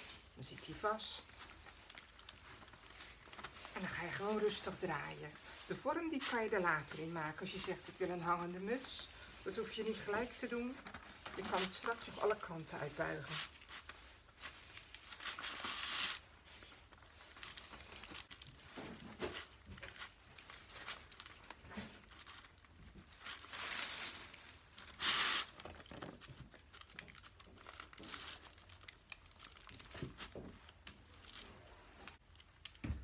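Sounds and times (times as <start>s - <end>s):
moss rustling and crinkling: 0.0s - 32.8s.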